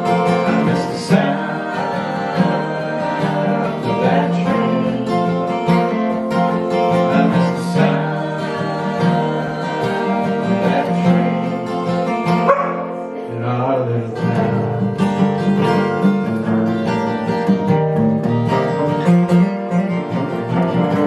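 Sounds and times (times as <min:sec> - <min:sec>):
acoustic guitar strummed and picked: 0:00.0 - 0:21.0.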